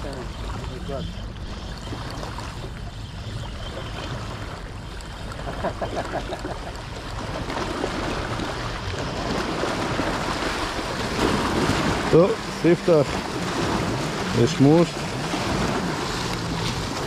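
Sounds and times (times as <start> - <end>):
water lapping and splashing: 0.0 - 17.0
wind rumble on microphone: 0.0 - 17.0.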